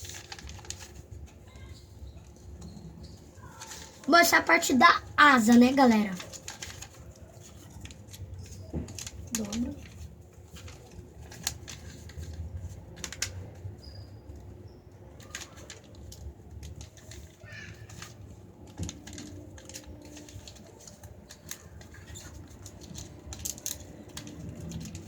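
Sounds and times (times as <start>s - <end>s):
paper rustling and crinkling: 0.0s - 25.0s.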